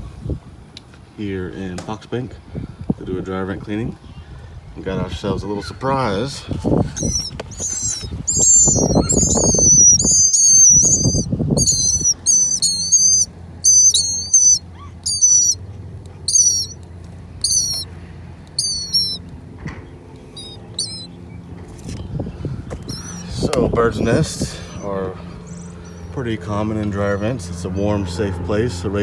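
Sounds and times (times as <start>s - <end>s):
nestling birds chirping shrilly: 4.1s - 28.8s.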